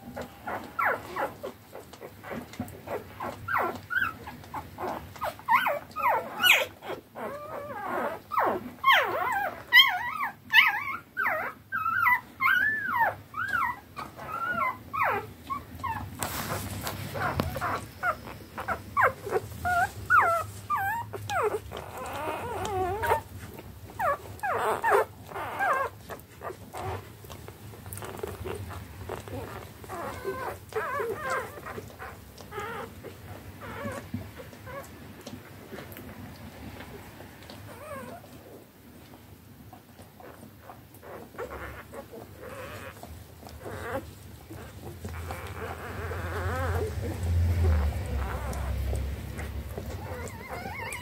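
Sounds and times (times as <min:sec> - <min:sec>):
puppies squeaking and whimpering: 0:00.0 - 0:38.7, 0:39.7 - 0:51.0.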